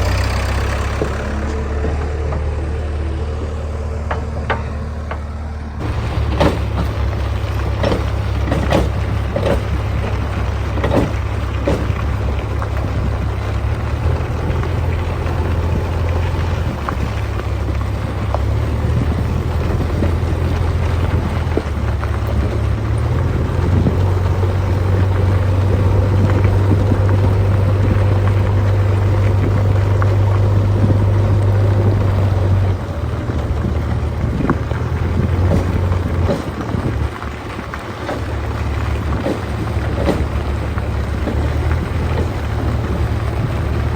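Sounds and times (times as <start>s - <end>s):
heavy diesel engine under load: 0.0s - 43.9s
knocks and clanks: 0.0s - 43.9s.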